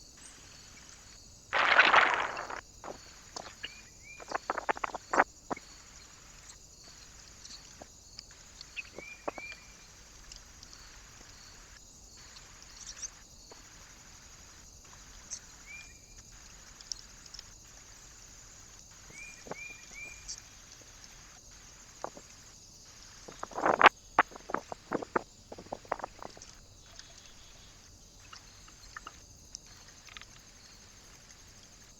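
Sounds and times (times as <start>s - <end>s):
steady high hiss: 0.0s - 26.6s
small birds chirping: 1.6s - 18.0s, 18.6s - 31.9s.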